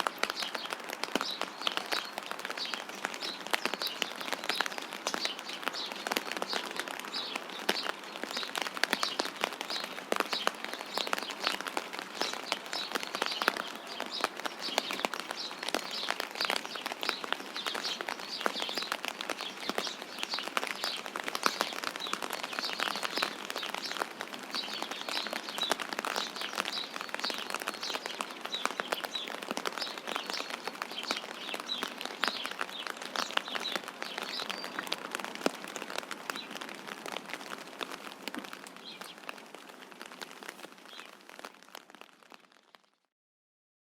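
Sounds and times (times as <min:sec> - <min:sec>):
small birds chirping: 0:00.0 - 0:42.4
light rain pattering: 0:00.0 - 0:43.1.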